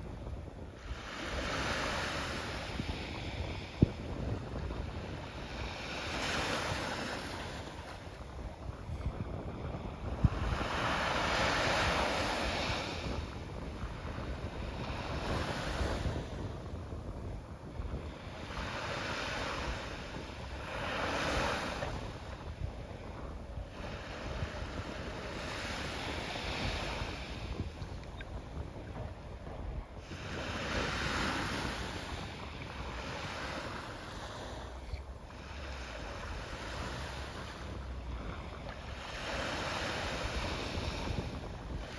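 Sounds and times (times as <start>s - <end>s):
small waves breaking on sand: 0.0s - 41.9s
wind rumble on microphone: 0.0s - 41.9s.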